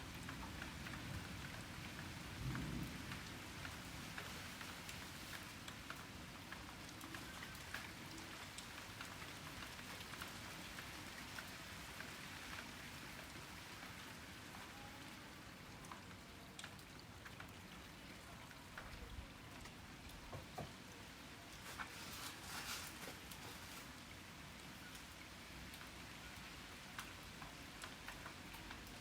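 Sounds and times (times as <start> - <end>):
raindrops ticking close by: 0.0 - 29.0
steady rain hiss: 0.0 - 29.0.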